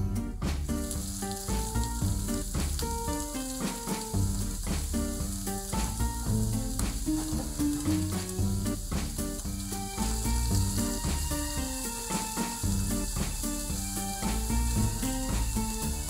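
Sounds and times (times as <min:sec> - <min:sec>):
light background music: 0:00.0 - 0:16.0
food sizzling in hot oil: 0:00.1 - 0:16.0.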